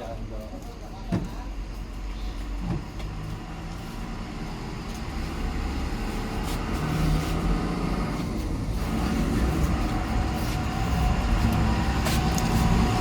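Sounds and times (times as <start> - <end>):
road traffic engine rumble: 0.0 - 13.0.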